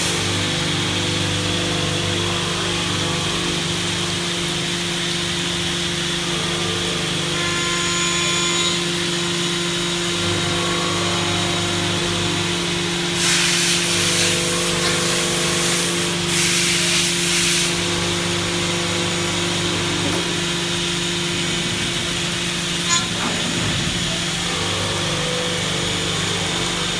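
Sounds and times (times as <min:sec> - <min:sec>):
milling machine humming: 0:00.0 - 0:26.9.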